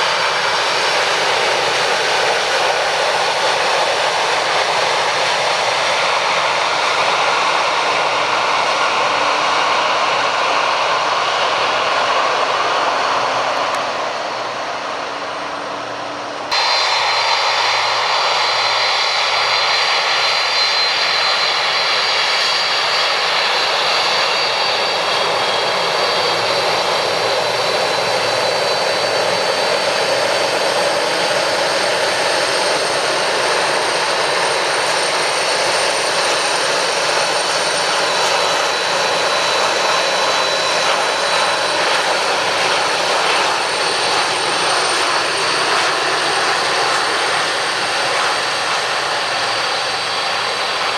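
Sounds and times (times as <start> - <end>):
jet engines running: 0.0 - 50.9.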